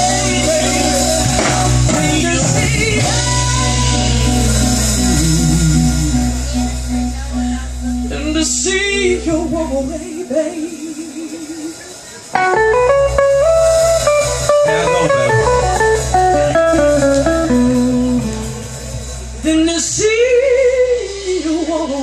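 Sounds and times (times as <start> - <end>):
blues band playing: 0.0 - 22.0
electric guitar lead: 0.0 - 22.0.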